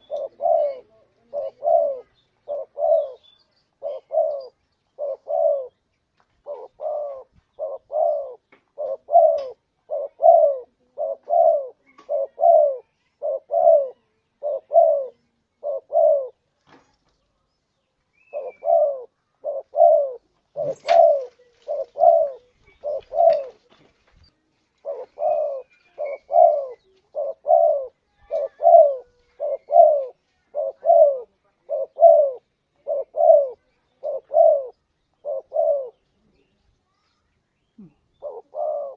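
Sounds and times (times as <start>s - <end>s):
dove cooing: 0.0s - 5.8s, 6.4s - 16.4s, 18.2s - 23.7s, 24.8s - 36.5s, 37.8s - 38.9s.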